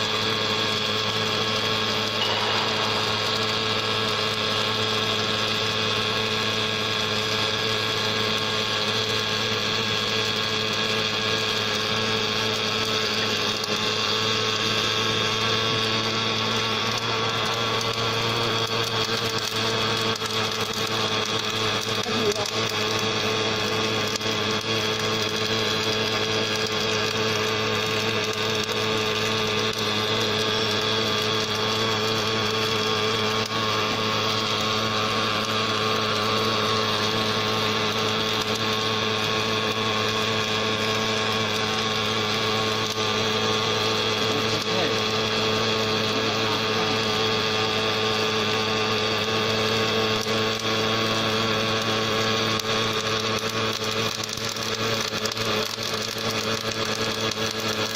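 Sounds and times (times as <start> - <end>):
welding machine humming and whining: 0.0 - 57.9.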